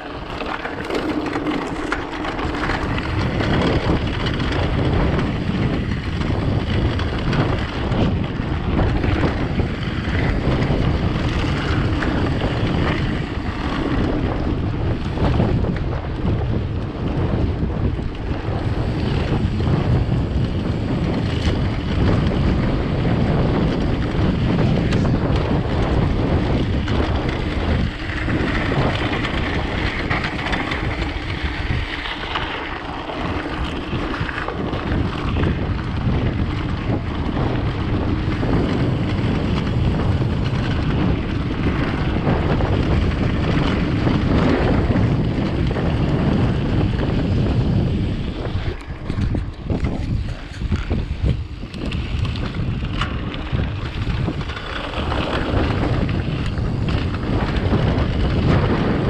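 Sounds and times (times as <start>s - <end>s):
bike rattling over bumps: 0.0s - 59.0s
wind buffeting microphone: 0.0s - 59.0s.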